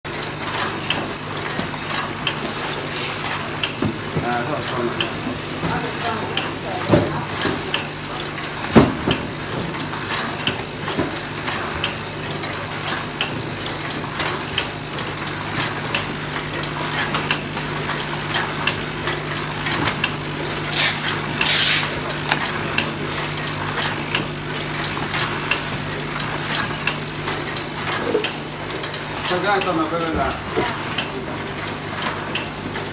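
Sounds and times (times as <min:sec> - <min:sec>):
machine motor hum: 0:00.1 - 0:32.9
rapid mechanical clicking: 0:00.1 - 0:32.9.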